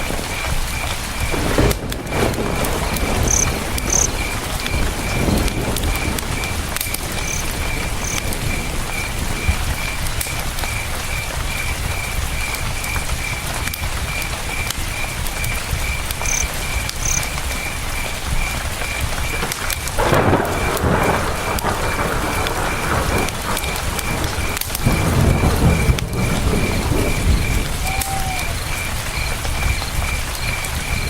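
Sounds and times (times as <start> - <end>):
campfire crackling and popping: 0.0 - 31.0
cricket chirping: 0.0 - 31.0.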